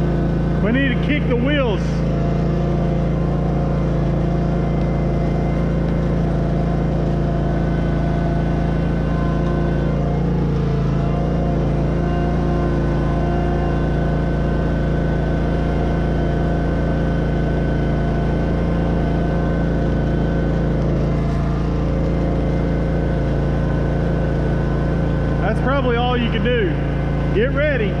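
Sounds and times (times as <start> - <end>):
riding mower engine running: 0.0 - 28.0.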